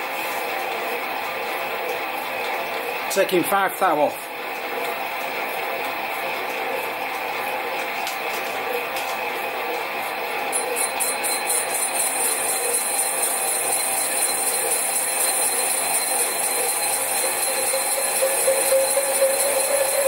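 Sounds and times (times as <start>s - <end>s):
lathe whine with gear noise: 0.0s - 20.0s.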